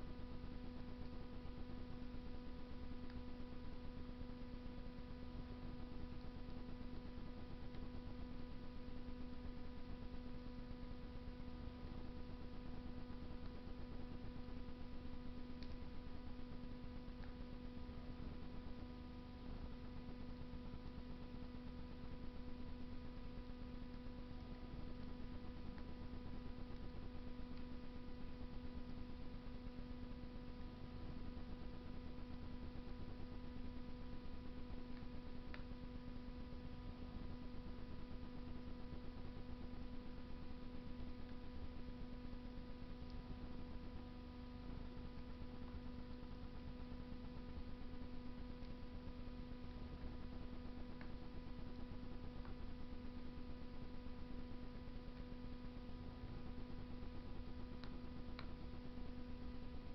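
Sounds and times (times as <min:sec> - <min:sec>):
faint fire crackles: 0:00.0 - 0:59.9
steady hum: 0:00.0 - 0:59.9.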